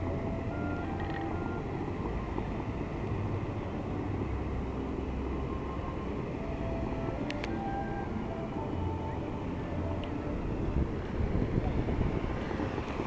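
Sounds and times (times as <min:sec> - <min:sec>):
fountain water jets spraying: 0:00.0 - 0:13.0.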